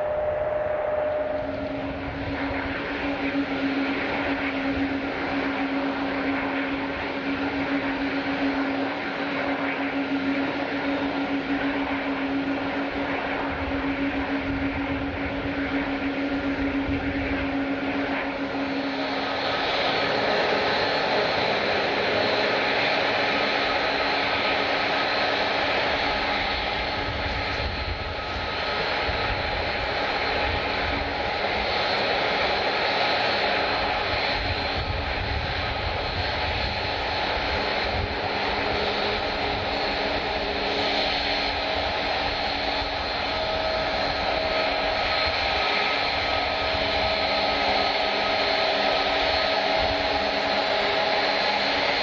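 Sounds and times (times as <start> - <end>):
high engine whine: 0.0 - 52.0
jet engine rush: 0.0 - 52.0
low engine drone: 0.0 - 52.0.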